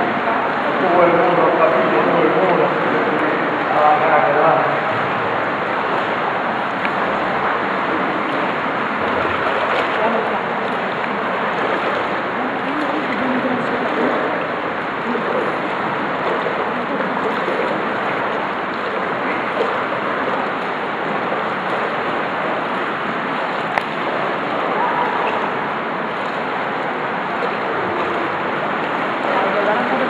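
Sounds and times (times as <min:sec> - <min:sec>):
pool water splashing: 0:00.0 - 0:30.0.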